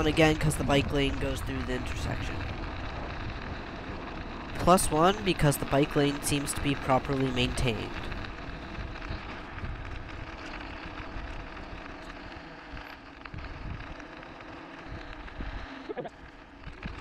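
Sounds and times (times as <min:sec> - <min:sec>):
wind buffeting microphone: 0:00.0 - 0:17.0
tyre rumble on asphalt: 0:01.1 - 0:06.0, 0:07.8 - 0:17.0.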